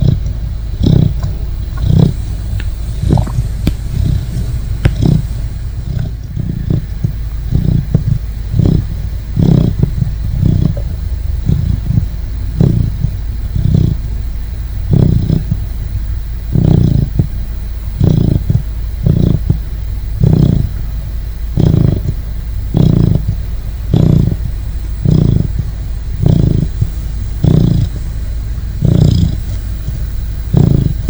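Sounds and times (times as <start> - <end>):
puppy snoring: 0.0 - 31.0.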